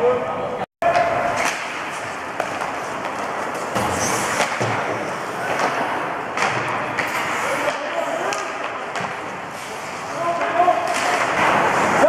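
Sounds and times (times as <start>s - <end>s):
hockey sticks and puck knocking: 0.8s - 9.4s, 10.2s - 12.0s
skates scraping on ice: 1.1s - 12.0s.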